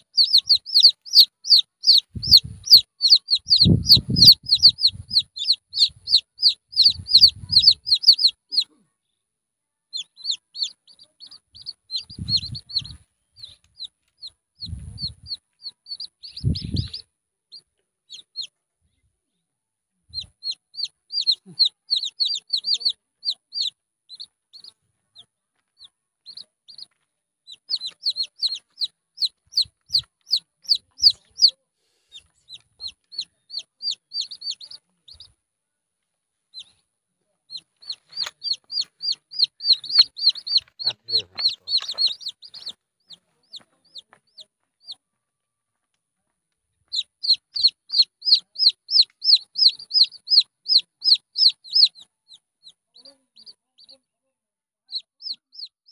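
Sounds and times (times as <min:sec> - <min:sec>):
chicks peeping: 0:00.0 - 0:08.8, 0:09.9 - 0:18.5, 0:20.1 - 0:35.4, 0:36.5 - 0:36.9, 0:37.5 - 0:45.0, 0:46.9 - 0:54.0, 0:54.9 - 0:55.9.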